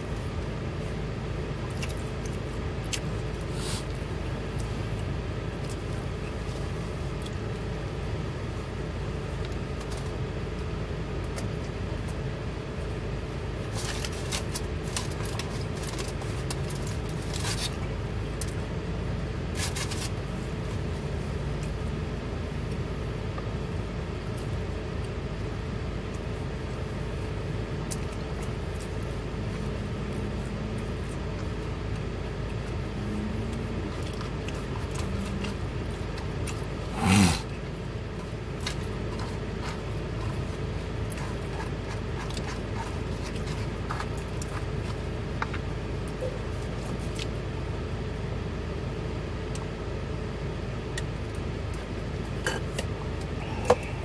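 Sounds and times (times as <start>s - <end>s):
car engine humming: 0.0s - 54.0s.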